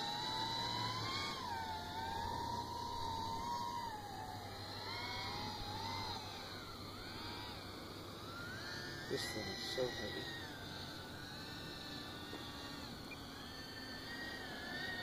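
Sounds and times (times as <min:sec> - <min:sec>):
drone motors whining: 0:00.0 - 0:15.0
steady low hum: 0:00.0 - 0:15.0.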